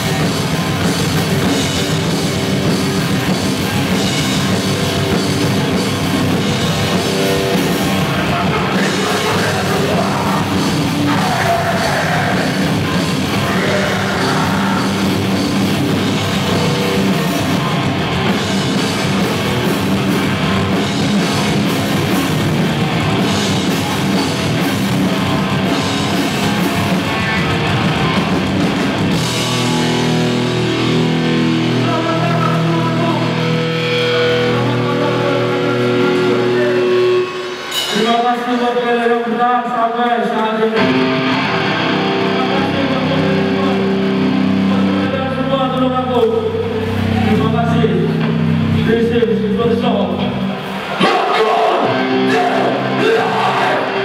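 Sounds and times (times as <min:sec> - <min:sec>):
hardcore band playing live: 0:00.0 - 0:54.0.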